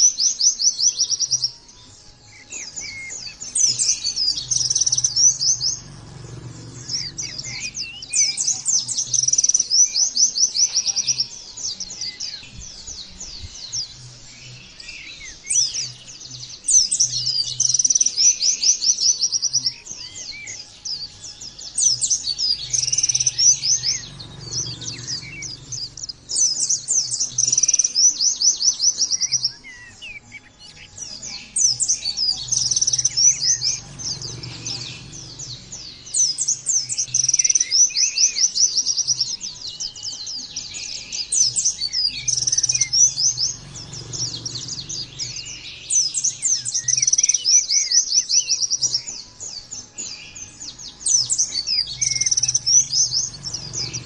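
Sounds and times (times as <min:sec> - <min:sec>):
bird singing high trilled notes: 0:00.0 - 0:54.0.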